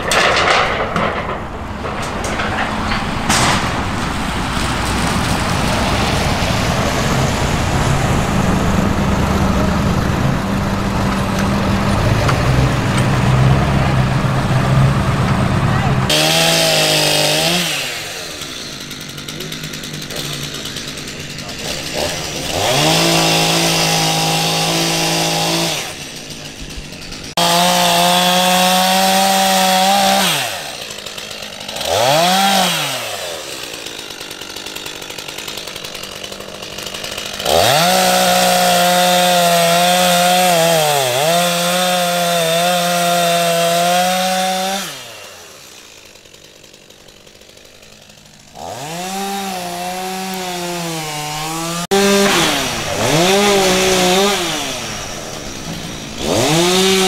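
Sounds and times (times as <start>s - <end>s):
chainsaw cutting wood: 2.0s - 15.3s, 16.0s - 57.0s.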